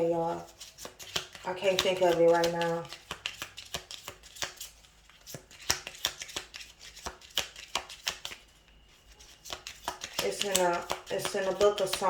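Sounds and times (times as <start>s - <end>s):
cards being shuffled: 0.4s - 12.0s.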